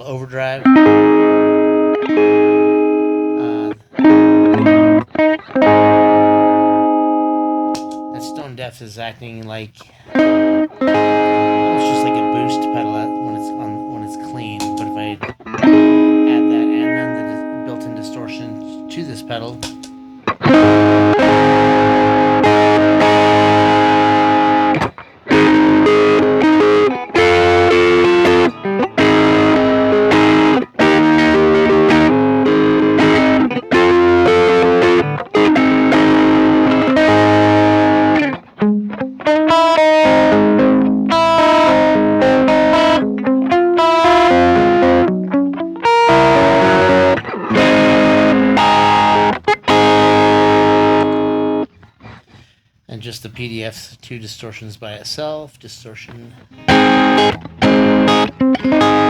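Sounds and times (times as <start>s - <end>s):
distorted electric guitar chords: 0.0s - 8.5s, 10.0s - 52.3s, 56.4s - 59.0s
picked guitar notes: 0.0s - 8.7s, 9.4s - 52.5s, 56.0s - 59.0s.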